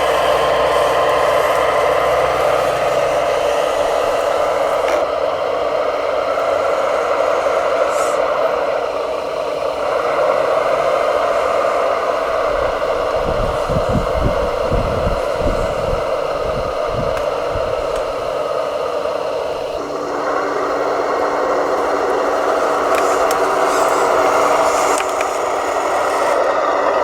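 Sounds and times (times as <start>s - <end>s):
electric motor and gears whirring: 0.0s - 27.0s.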